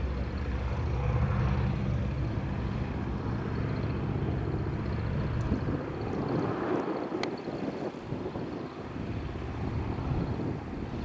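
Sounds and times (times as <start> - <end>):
aircraft engine droning: 0.0 - 11.0.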